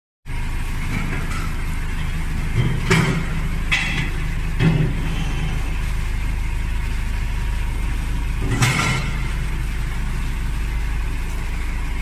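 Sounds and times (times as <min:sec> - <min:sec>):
vehicle engine humming: 0:00.3 - 0:12.0.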